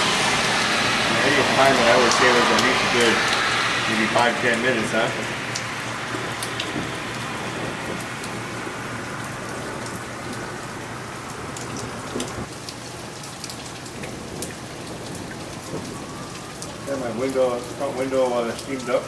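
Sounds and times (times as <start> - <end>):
hailstones ticking: 0.0 - 19.0
rain and hail hissing: 0.0 - 19.0.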